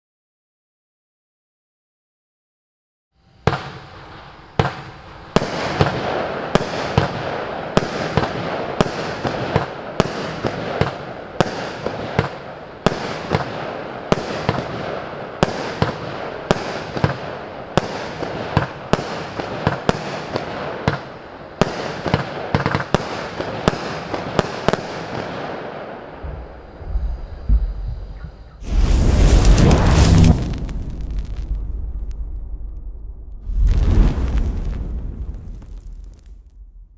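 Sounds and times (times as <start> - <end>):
fireworks hiss: 3.4 - 32.2, 33.4 - 36.6
fireworks bangs: 3.4 - 36.9.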